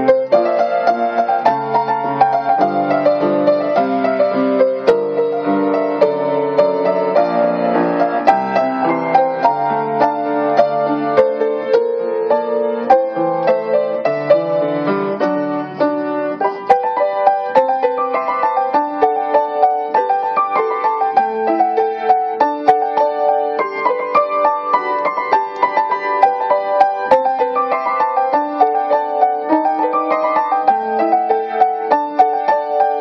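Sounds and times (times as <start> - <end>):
solo piano ballad: 0.0 - 33.0.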